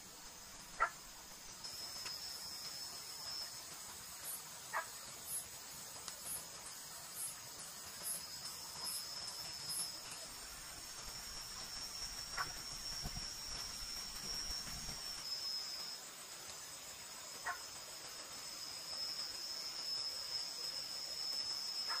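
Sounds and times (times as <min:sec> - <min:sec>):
night insects trilling: 0:00.0 - 0:22.0.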